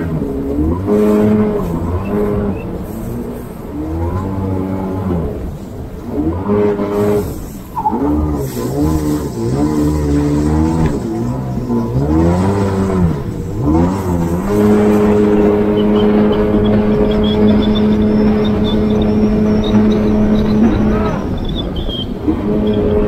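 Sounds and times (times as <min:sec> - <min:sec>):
jet ski engine revving: 0:00.0 - 0:23.0.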